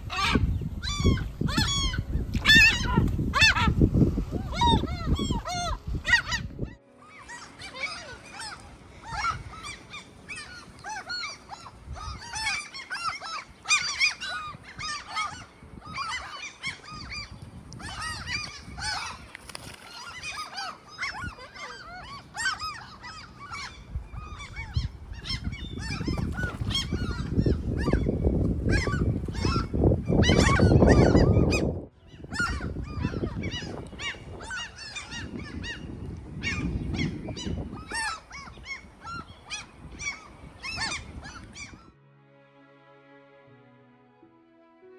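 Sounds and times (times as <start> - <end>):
wind buffeting microphone: 0.0 - 6.8, 8.2 - 41.9
gulls calling: 0.0 - 41.9.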